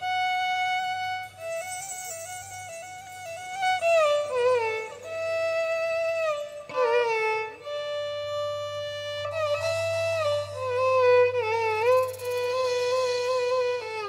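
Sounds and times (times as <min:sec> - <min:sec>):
violin solo melody: 0:00.0 - 0:14.0.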